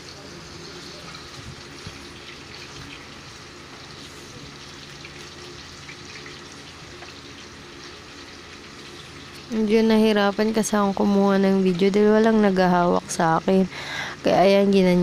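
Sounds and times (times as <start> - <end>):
sausages sizzling in oil: 0.0 - 15.0.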